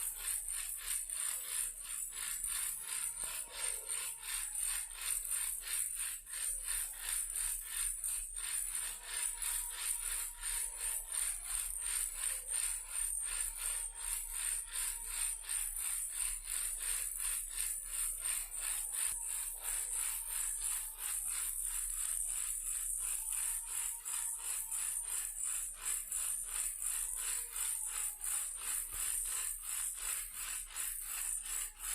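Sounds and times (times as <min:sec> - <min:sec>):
toy car rattling: 0:00.0 - 0:31.9.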